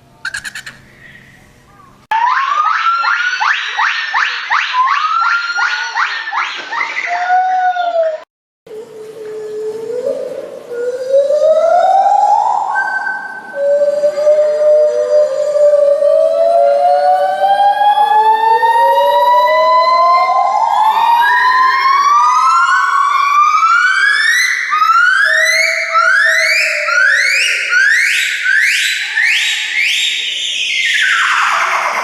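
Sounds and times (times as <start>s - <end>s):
primate whooping calls: 0.2s - 1.5s, 4.7s - 17.5s, 20.1s - 32.0s.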